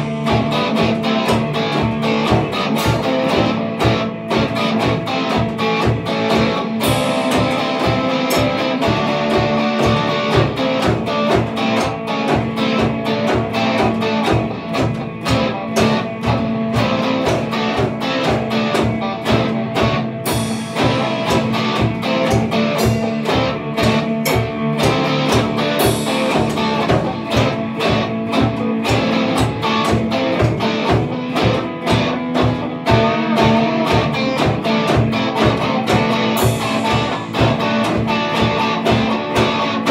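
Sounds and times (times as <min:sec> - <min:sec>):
chugging electric guitars: 0:00.0 - 0:39.9
drum kit beat: 0:00.0 - 0:39.9.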